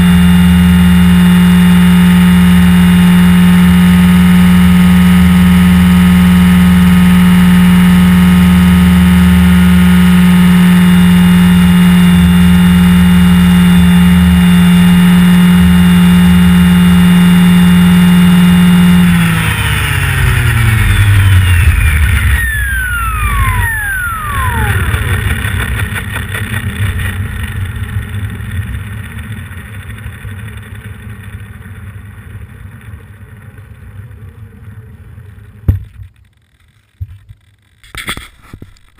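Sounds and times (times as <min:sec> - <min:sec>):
helicopter motor and rotor: 0:00.0 - 0:34.4.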